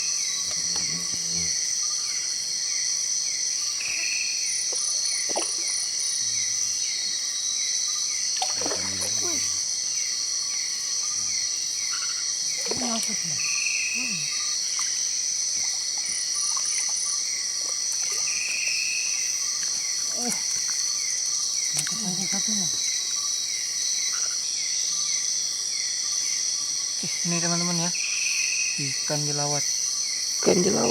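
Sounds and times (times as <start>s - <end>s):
insect chorus drone: 0.0s - 30.9s
repeating insect chirp: 0.0s - 30.9s.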